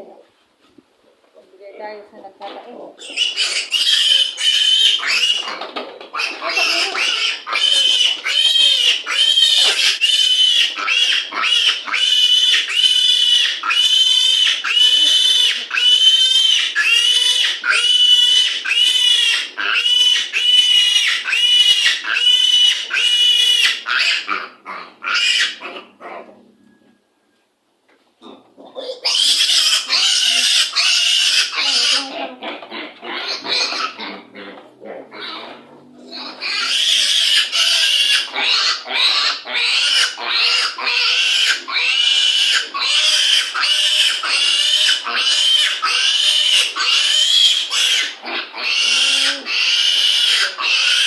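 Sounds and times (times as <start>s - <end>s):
piglet squealing: 3.0s - 5.6s, 6.2s - 26.2s, 28.2s - 51.0s.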